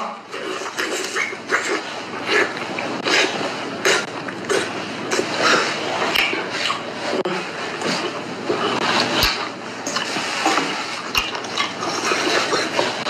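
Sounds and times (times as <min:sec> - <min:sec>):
wet eating mouth sounds: 0:00.0 - 0:13.0.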